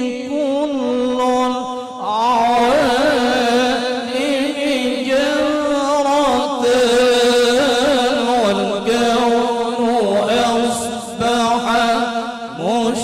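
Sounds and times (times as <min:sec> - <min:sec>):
devotional song with held notes: 0:00.0 - 0:13.0.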